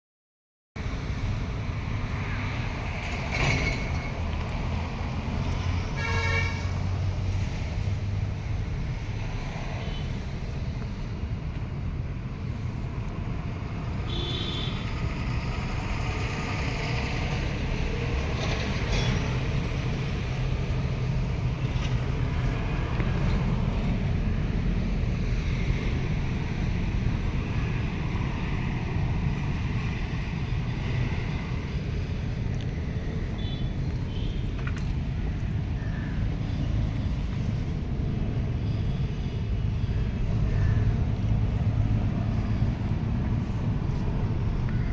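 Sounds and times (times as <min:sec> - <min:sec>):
road noise: 0:00.8 - 0:44.9
vehicle engine rumbling: 0:00.8 - 0:44.9.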